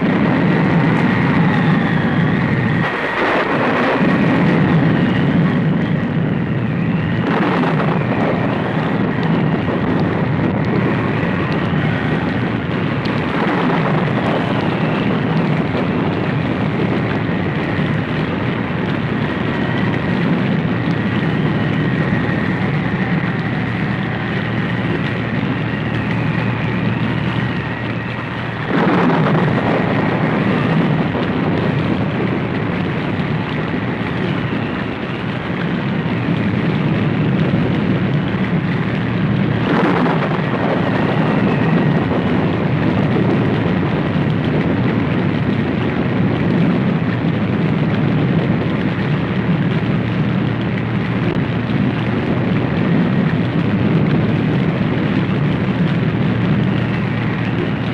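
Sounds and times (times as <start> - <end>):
dense rumbling roar: 0.0 - 57.9.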